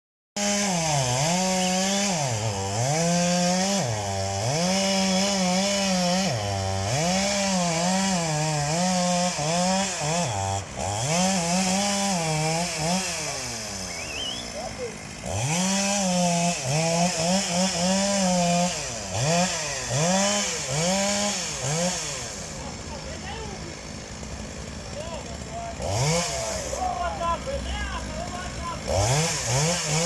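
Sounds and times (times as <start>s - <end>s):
chainsaw cutting wood: 0.4s - 30.0s.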